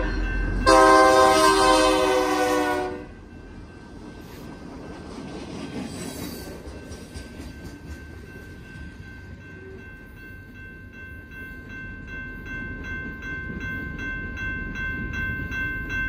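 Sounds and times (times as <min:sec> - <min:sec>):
crossing warning bell ringing: 0:00.0 - 0:04.9, 0:06.4 - 0:16.0
freight train rumbling past: 0:00.0 - 0:16.0.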